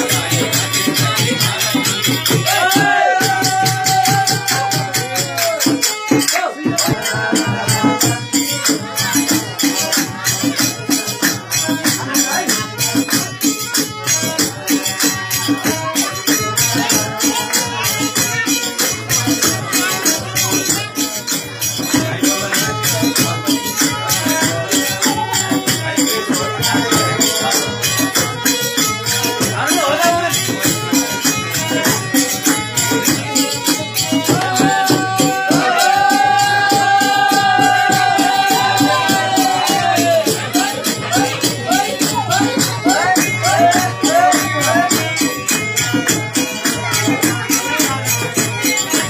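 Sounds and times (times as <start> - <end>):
shaker-like percussion: 0.0 - 49.0.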